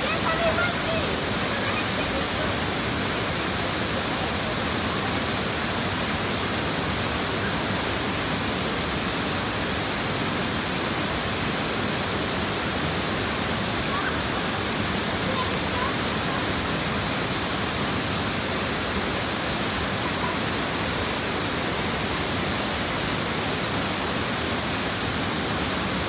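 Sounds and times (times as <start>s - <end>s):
waterfall pouring into pool: 0.0s - 26.0s.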